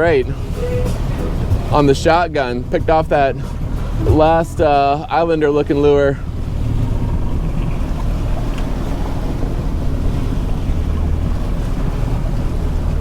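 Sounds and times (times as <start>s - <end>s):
boat engine running: 0.0s - 13.0s
water washing past hull: 0.0s - 13.0s
wind buffeting microphone: 0.0s - 13.0s.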